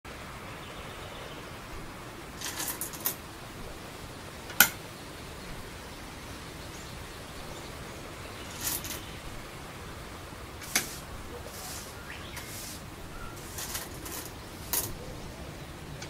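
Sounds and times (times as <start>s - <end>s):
steady low hiss: 0.1s - 16.0s.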